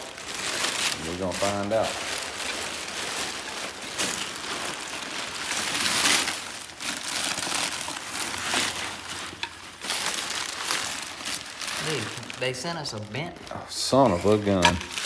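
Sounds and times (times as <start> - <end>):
packaging wrap rustling: 0.0 - 15.0.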